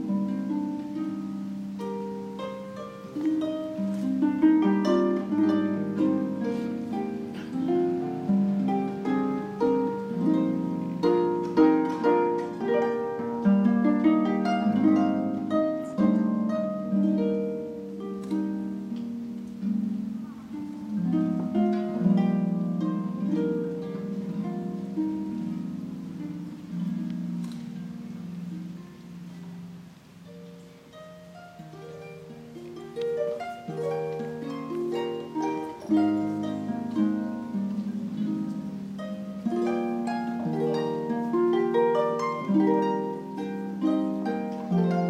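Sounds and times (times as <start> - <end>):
harp playing solo: 0.0 - 45.0.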